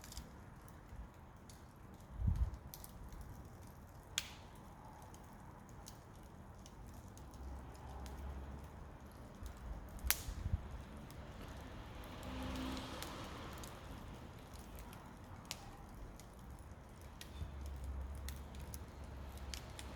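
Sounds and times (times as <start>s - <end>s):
sharp pops and snaps: 0.0s - 19.9s
wood fire crackling: 0.0s - 19.9s.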